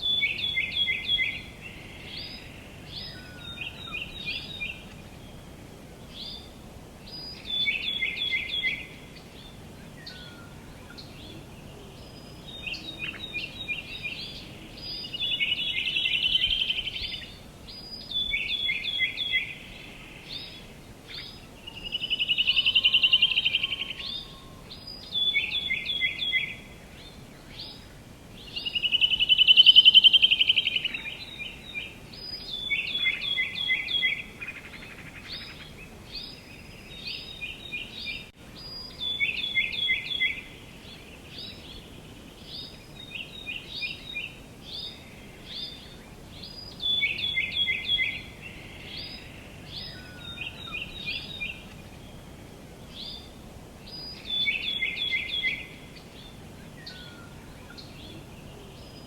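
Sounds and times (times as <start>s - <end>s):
outdoor background hiss: 0.0s - 59.0s
songbird singing: 0.0s - 59.0s.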